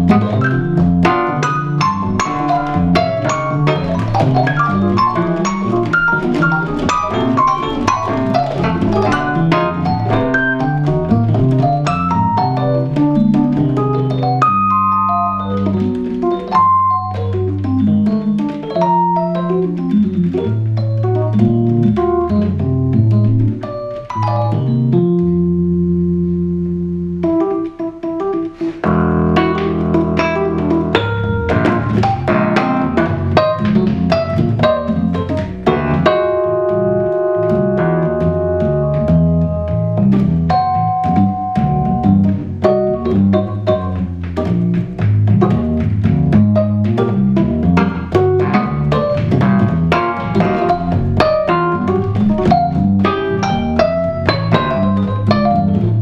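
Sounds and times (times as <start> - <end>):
accordion free jazz improvisation: 0.0 - 56.0.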